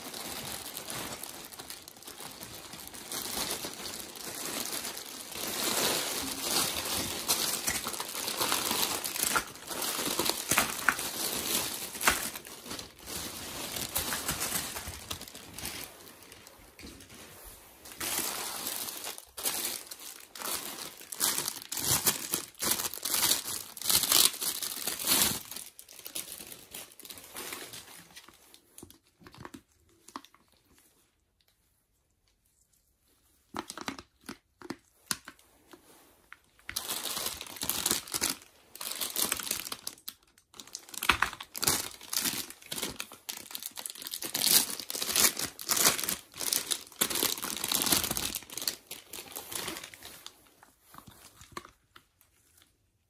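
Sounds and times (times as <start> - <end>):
plastic tearing crackles: 0.0 - 17.1, 17.9 - 30.4, 36.7 - 50.1
plastic bags crinkling: 0.0 - 17.2, 17.8 - 30.6, 36.5 - 52.7.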